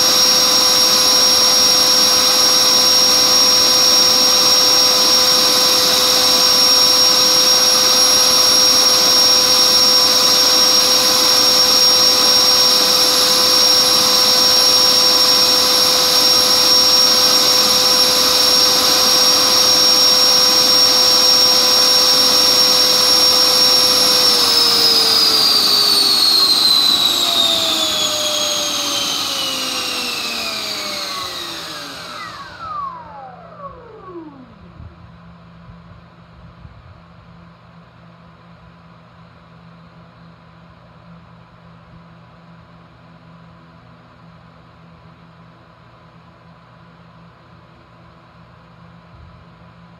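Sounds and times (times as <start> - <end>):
electric fan high whine: 0.0 - 49.9.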